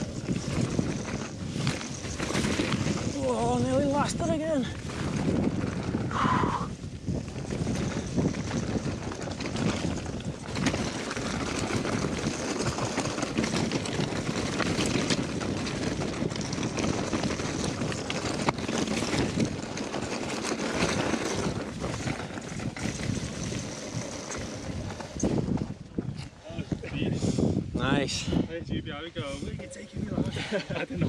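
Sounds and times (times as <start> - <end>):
bike knocks and rattles: 0.0 - 6.1, 6.9 - 26.6
wind buffeting microphone: 0.0 - 31.0.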